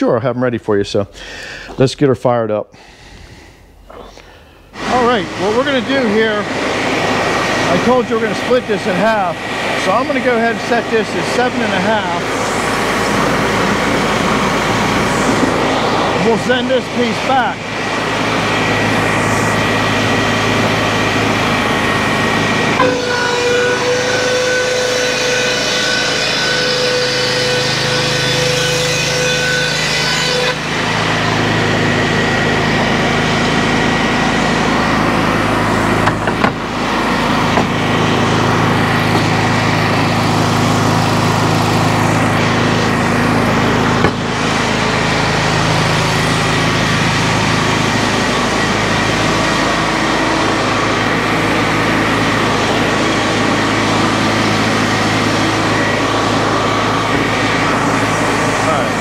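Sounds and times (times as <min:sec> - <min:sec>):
board edger saw running: 0:04.1 - 0:59.0.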